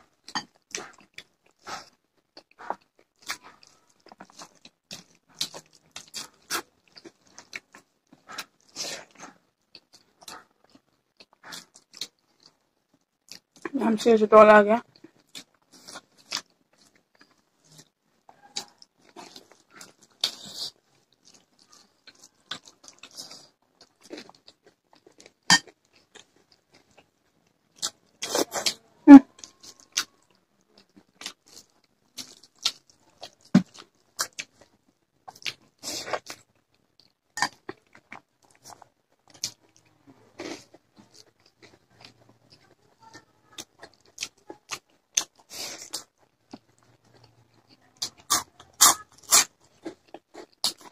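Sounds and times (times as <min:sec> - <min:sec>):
chewing sounds: 0:00.2 - 0:13.7, 0:14.9 - 0:50.9.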